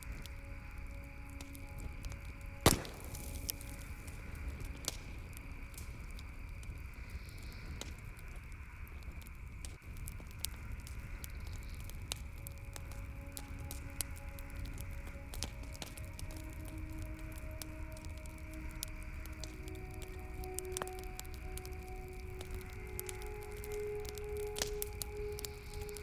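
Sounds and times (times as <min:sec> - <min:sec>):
campfire wood crackling: 0:00.0 - 0:26.0.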